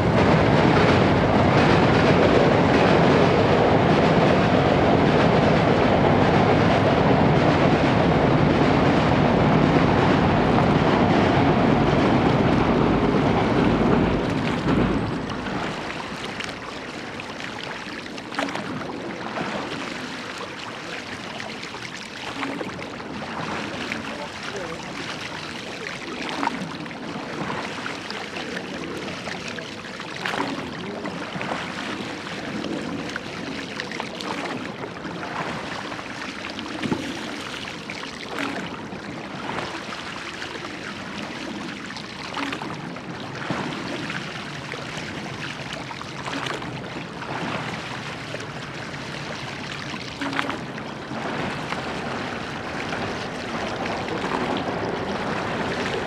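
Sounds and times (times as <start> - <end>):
water rushing along boat hull: 0.0 - 56.0
oars splashing: 10.4 - 56.0.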